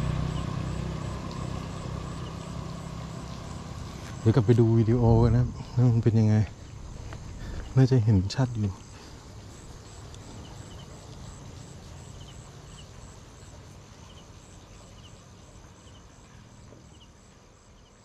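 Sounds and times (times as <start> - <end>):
steady low rumble: 0.0 - 15.2
insects chirping: 0.0 - 18.0.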